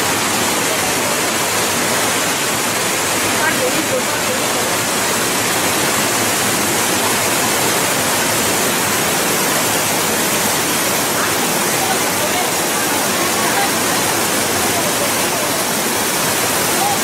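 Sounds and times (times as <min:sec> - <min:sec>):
whitewater rushing over weir: 0:00.0 - 0:17.0.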